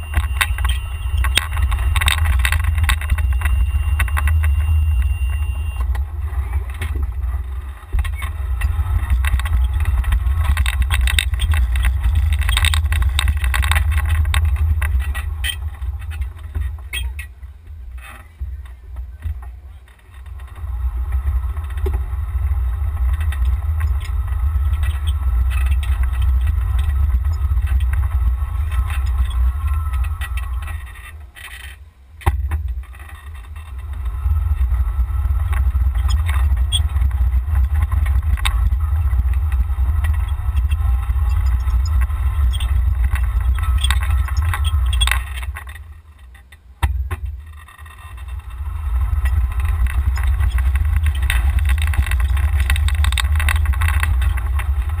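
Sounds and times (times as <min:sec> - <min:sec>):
golf cart driving rumble: 0:00.0 - 0:55.0.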